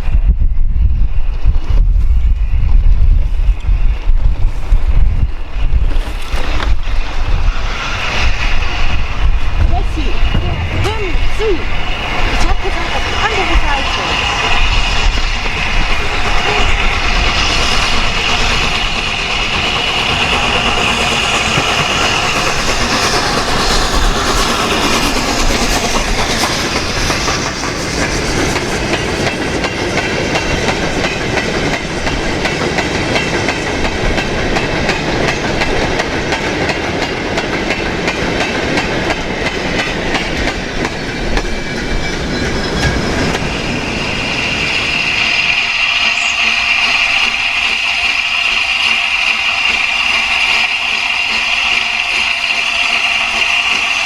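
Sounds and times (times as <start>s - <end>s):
train wheels rattling over rail joints: 3.5s - 54.0s.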